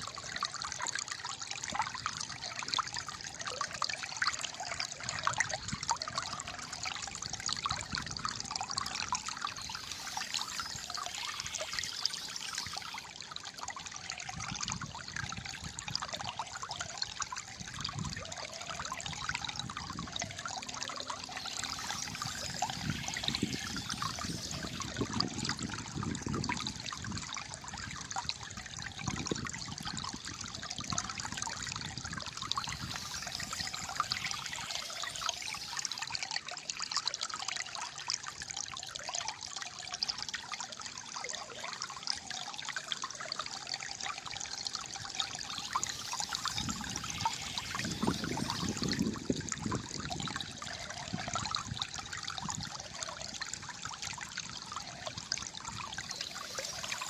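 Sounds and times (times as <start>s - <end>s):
shallow water trickling: 0.0s - 57.0s.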